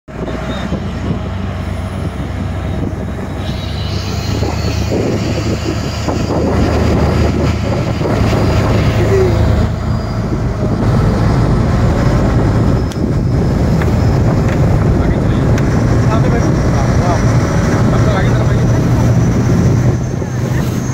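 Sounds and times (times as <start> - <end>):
motorboat engine running: 0.1 - 20.9
wind on microphone: 0.1 - 20.9.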